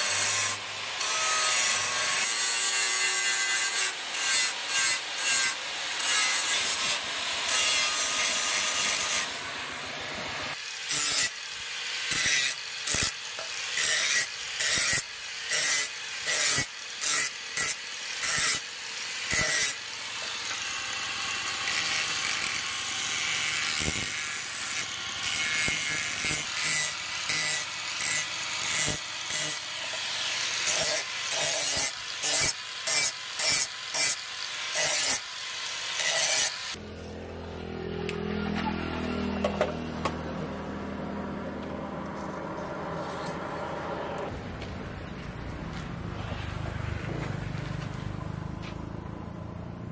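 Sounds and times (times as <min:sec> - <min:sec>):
angle grinder grinding steel: 0:00.0 - 0:40.2.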